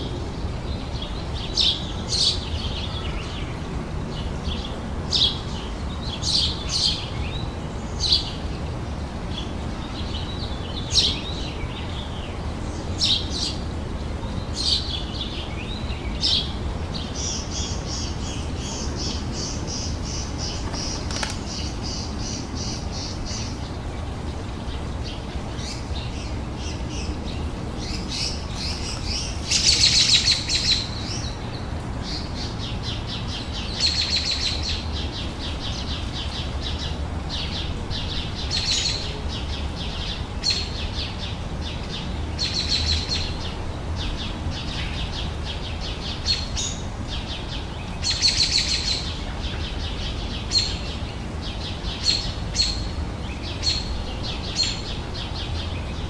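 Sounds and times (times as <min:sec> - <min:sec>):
songbirds singing trills: 0:00.0 - 0:56.0.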